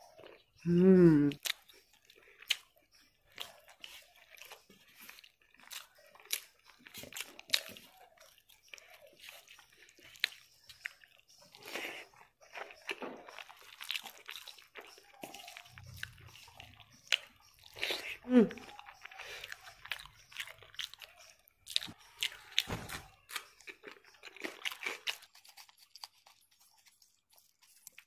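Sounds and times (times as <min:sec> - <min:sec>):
chewing and crunching: 0:00.0 - 0:00.7, 0:01.3 - 0:28.0
fingers mixing food on steel plate: 0:01.4 - 0:28.0.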